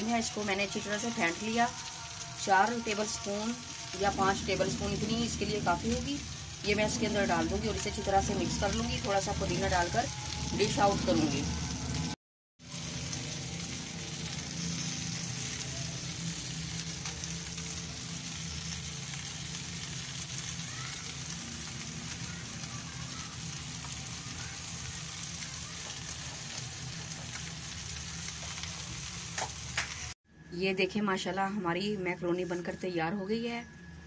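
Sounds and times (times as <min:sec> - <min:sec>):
food sizzling in a pan: 0:00.0 - 0:30.2.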